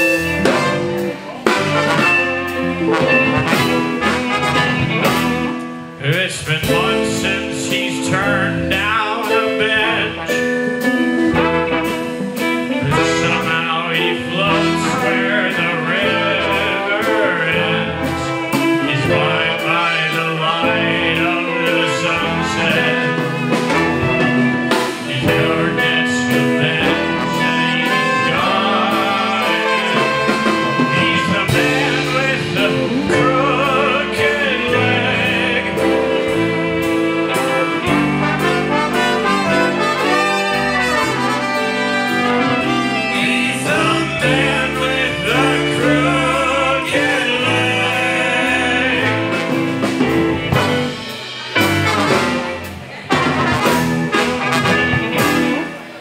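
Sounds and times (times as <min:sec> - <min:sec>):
band playing bluesy jazz song: 0:00.0 - 0:56.0
man singing: 0:00.0 - 0:56.0.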